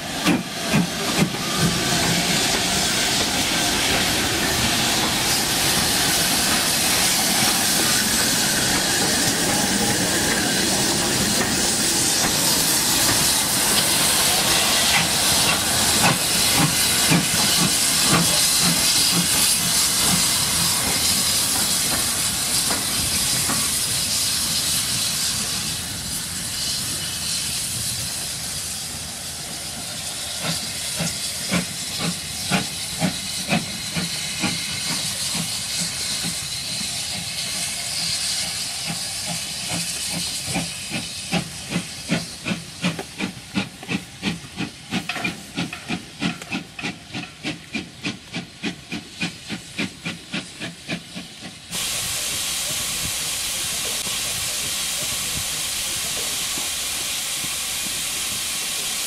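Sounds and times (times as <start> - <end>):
steam locomotive hissing: 0.0 - 59.0.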